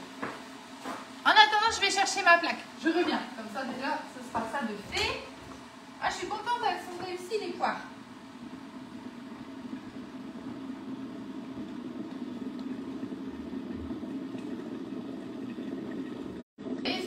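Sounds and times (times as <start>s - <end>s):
kettle heating water: 0.0s - 17.0s.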